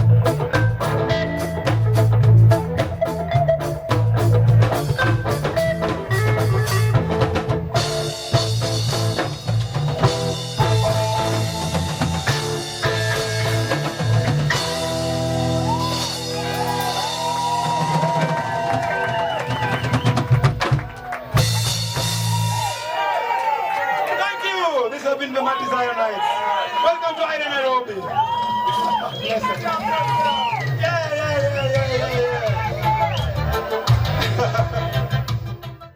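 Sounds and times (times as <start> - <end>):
bass and drum groove: 0.0 - 23.2, 28.6 - 35.9
reggae band playing: 0.0 - 35.9.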